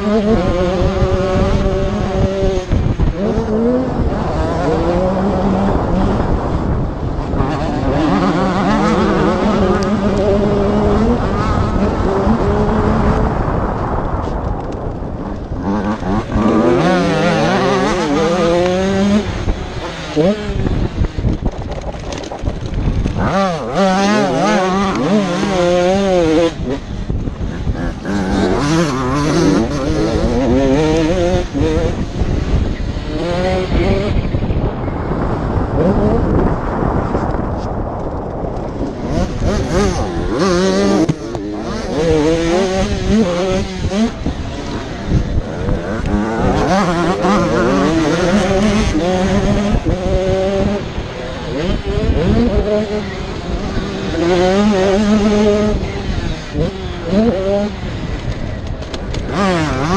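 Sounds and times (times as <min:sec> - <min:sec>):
motocross bike engine revving: 0:00.0 - 0:59.9
steady rushing noise: 0:00.0 - 0:59.9
wind buffeting microphone: 0:00.0 - 0:59.9.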